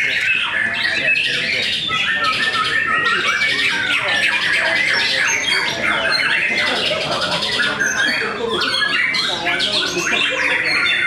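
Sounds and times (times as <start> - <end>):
chorus of songbirds: 0.0 - 11.0.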